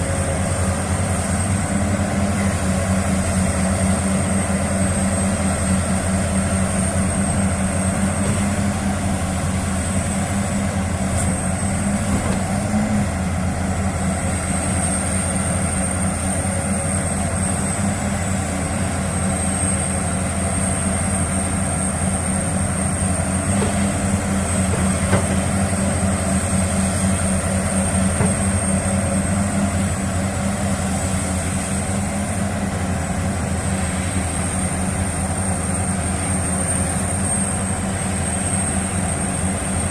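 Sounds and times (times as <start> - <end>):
low diesel engine hum: 0.0 - 39.9.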